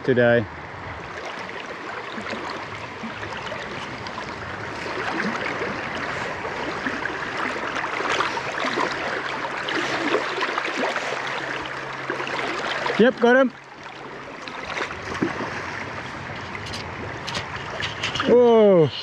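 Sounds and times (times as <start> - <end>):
river water rushing over riffle: 0.7 - 18.8.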